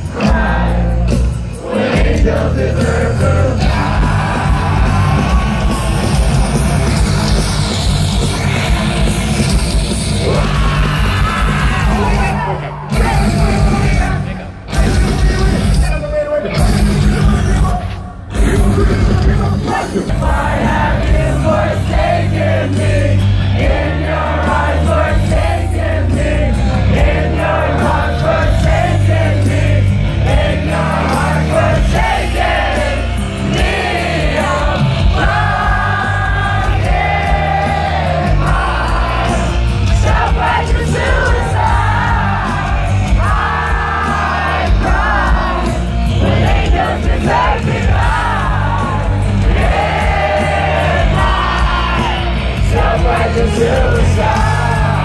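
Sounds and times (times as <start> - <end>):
live rock band: 0.0 - 55.0.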